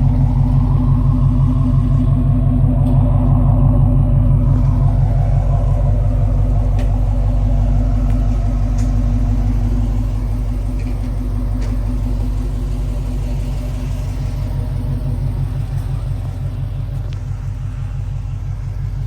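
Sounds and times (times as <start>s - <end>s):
car engine exhaust drone: 0.0s - 19.0s.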